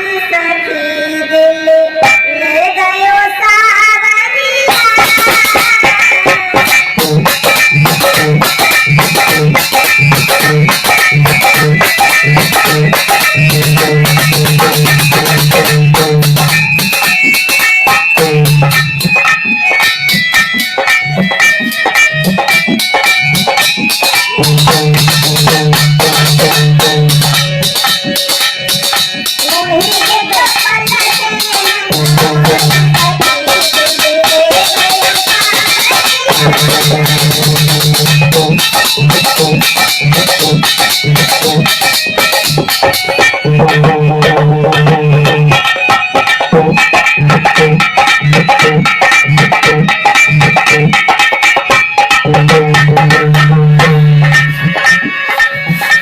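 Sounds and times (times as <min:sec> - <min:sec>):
percussion beat: 0:02.0 - 0:02.6, 0:04.5 - 0:56.0
plucked string and keyboard melody: 0:04.7 - 0:56.0.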